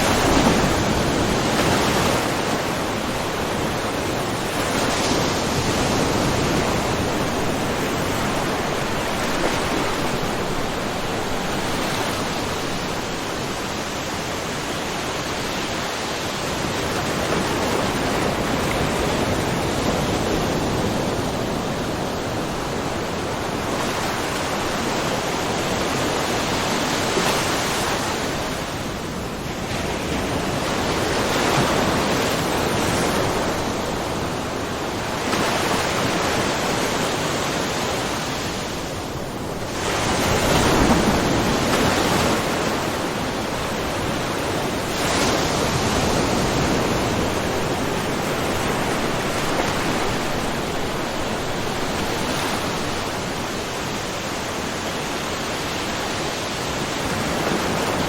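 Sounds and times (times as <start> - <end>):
waves splashing on shore: 0.0 - 58.0.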